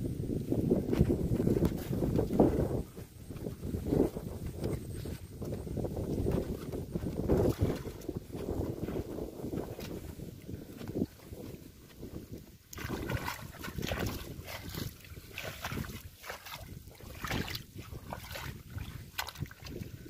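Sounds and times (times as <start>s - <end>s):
muddy water splashing: 0.6s - 20.0s.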